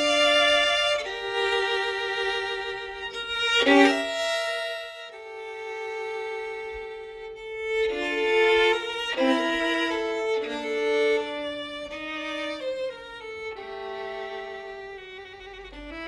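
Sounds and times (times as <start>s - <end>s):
violin playing slow melody: 0.0s - 16.0s.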